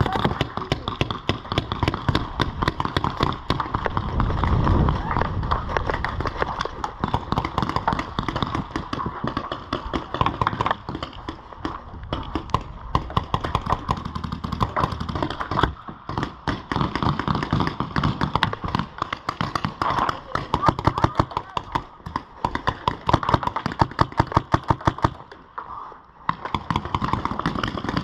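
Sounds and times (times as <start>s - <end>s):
paintball markers firing: 0.0s - 25.3s, 26.2s - 28.0s.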